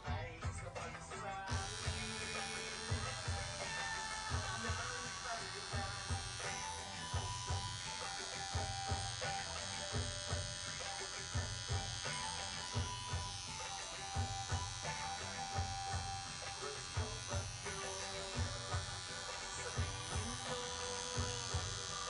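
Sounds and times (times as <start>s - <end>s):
background music with steady beat: 0.0s - 22.0s
tattoo machine buzzing: 0.0s - 22.0s.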